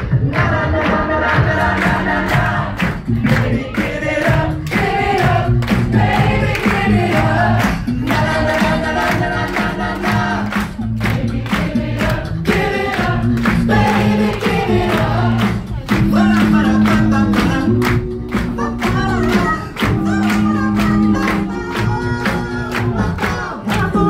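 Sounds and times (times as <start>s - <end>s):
beatboxed beat: 0.0s - 24.0s
sung bass line: 0.0s - 24.0s
vocal group singing in harmony: 0.0s - 24.0s.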